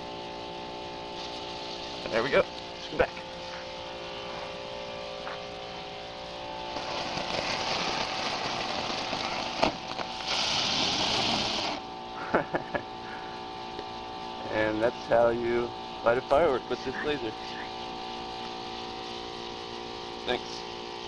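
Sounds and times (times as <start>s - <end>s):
ground firework hissing: 0.9s - 4.6s, 6.6s - 13.4s, 14.5s - 21.0s.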